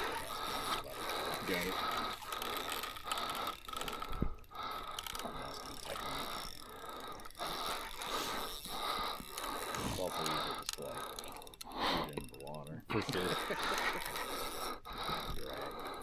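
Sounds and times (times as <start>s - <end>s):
fishing reel gears whirring: 0.0s - 16.0s.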